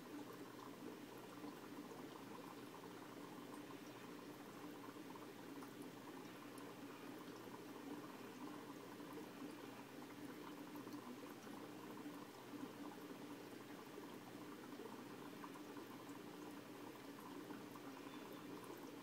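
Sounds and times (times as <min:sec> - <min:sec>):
aquarium water bubbling: 0:00.0 - 0:19.0.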